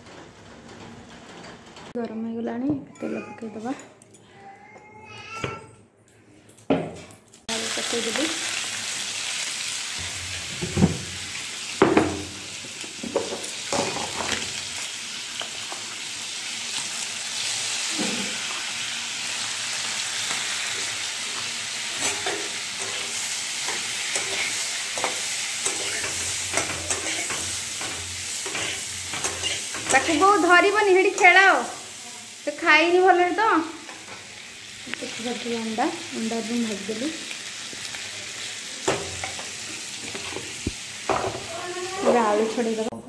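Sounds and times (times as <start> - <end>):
eggs sizzling in hot oil: 7.5 - 42.9.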